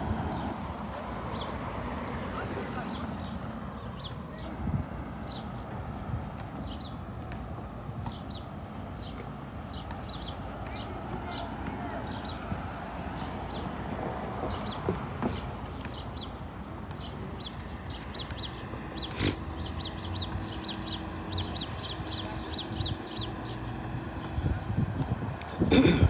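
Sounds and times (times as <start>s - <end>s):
low hum of street noise: 0.0s - 26.0s.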